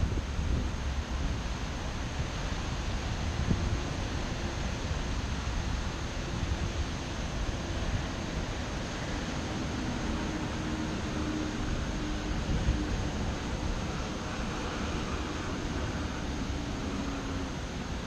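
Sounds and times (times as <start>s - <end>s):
strong wind rushing: 0.0s - 18.0s
wind buffeting microphone: 0.0s - 18.0s.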